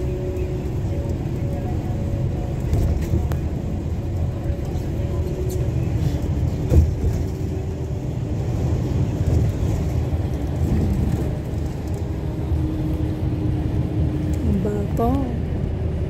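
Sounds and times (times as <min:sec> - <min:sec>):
tyre and engine rumble: 0:00.0 - 0:16.0.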